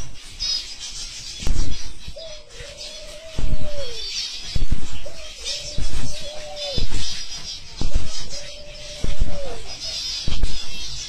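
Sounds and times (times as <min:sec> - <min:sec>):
birds chirping: 0:00.0 - 0:11.0
low thumps: 0:01.4 - 0:11.0.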